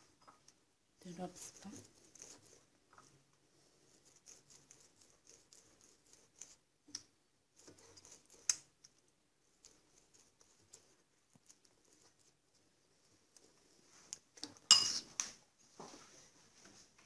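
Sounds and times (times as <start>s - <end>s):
pastry brush brushing: 1.0s - 16.9s.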